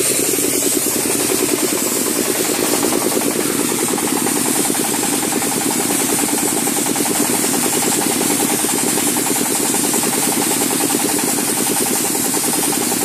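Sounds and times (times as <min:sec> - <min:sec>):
diesel engine chugging: 0:00.0 - 0:13.0
wet sand jet hissing: 0:00.0 - 0:13.0.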